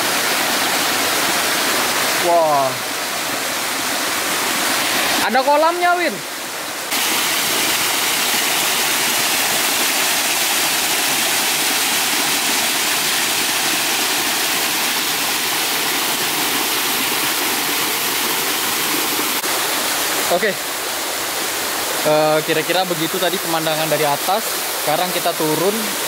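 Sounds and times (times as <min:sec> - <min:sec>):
waterfall splashing on rocks: 0:00.0 - 0:26.0.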